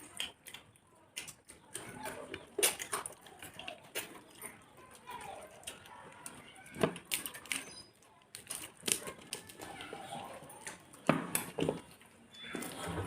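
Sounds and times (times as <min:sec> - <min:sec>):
people chewing and eating: 0:00.0 - 0:13.0.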